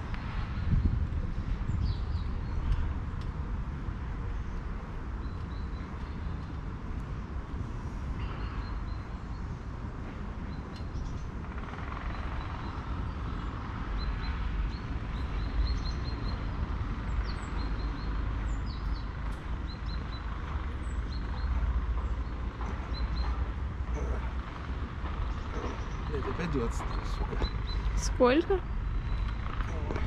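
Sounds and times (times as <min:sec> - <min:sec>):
small birds chirping: 0:00.0 - 0:03.4, 0:04.2 - 0:06.8, 0:10.3 - 0:30.0
steady low rumble: 0:00.0 - 0:30.0.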